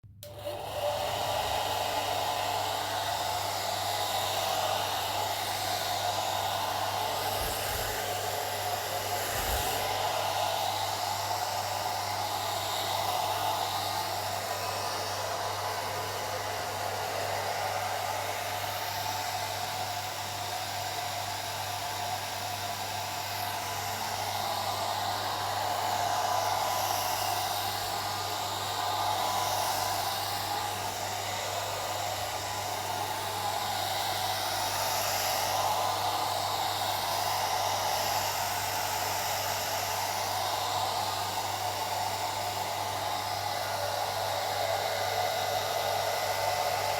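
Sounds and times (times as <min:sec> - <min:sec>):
hair dryer blowing: 0:00.0 - 0:46.9.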